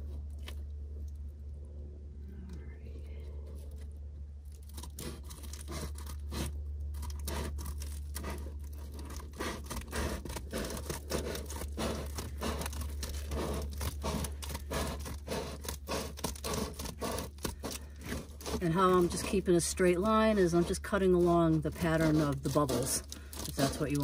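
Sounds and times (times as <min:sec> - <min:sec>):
foil and bubble crinkling: 0:04.4 - 0:24.0
scissors snipping insulation: 0:04.5 - 0:24.0.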